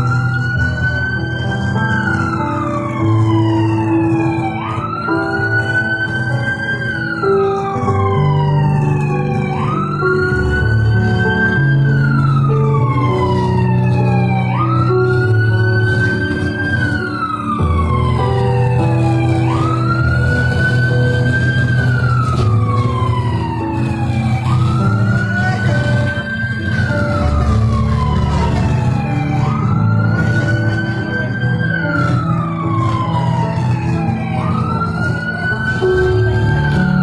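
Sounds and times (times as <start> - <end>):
low held music notes: 0.0 - 37.0
siren wailing: 0.0 - 37.0.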